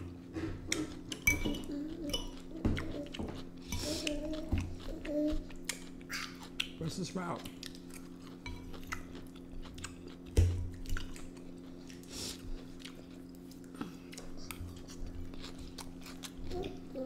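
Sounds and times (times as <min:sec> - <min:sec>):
close chewing: 0:00.7 - 0:17.0.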